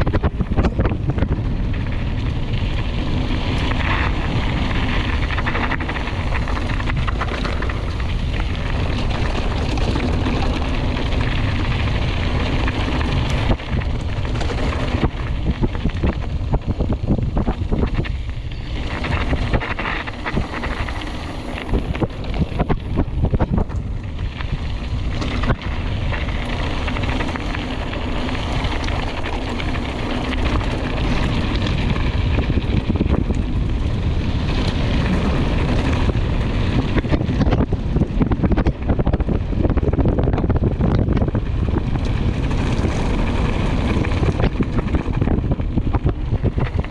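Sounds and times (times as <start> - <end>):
bike knocks and rattles: 0.0 - 46.9
bike trail noise: 0.0 - 46.9
wind rushing on microphone: 0.0 - 46.9.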